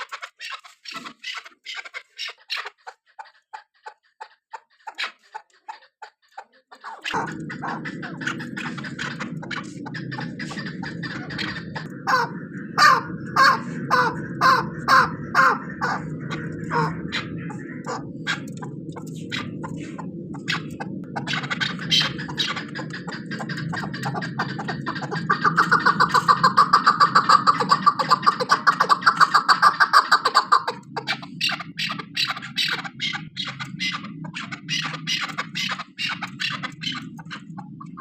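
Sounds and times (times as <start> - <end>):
partridge clucking calls: 0.0 - 38.0
steady low hum: 7.1 - 38.0.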